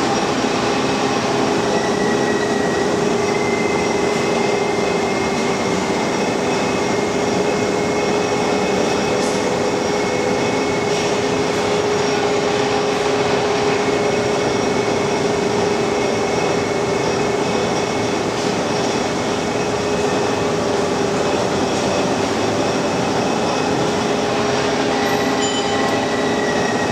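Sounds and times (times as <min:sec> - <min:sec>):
machinery hum: 0:00.0 - 0:26.9.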